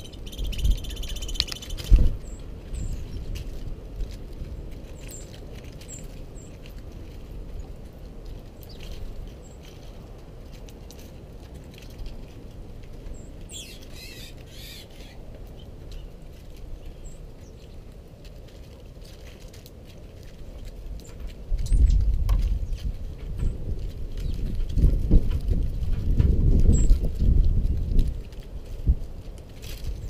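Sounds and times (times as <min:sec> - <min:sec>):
birds pecking seed: 0:00.0 - 0:30.0.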